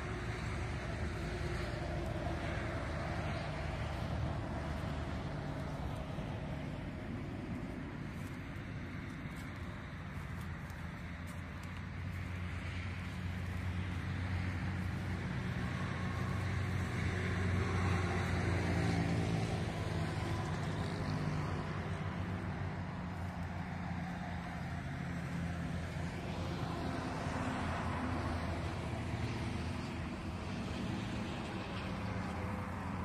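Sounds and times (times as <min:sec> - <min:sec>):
vehicle engine hum: 0:00.0 - 0:33.0.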